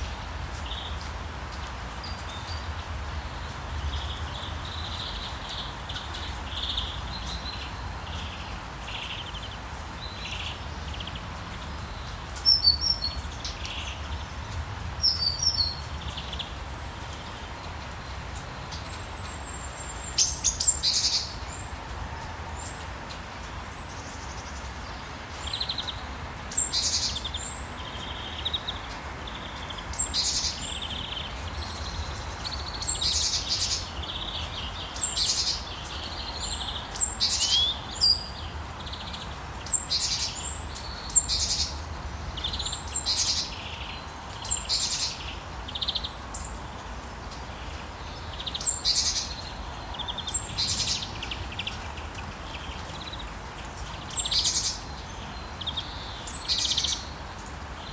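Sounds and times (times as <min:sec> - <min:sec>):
steady background hiss: 0:00.0 - 0:57.9.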